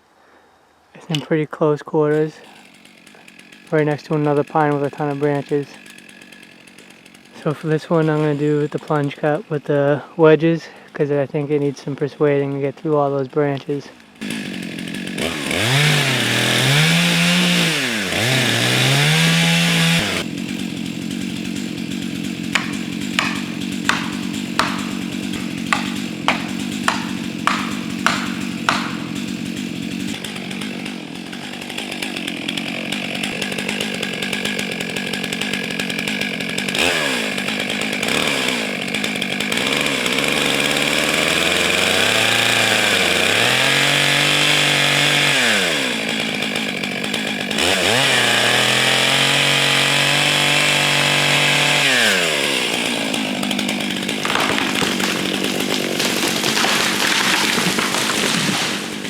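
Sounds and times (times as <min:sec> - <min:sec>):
chainsaw cutting wood: 0:02.1 - 0:59.0.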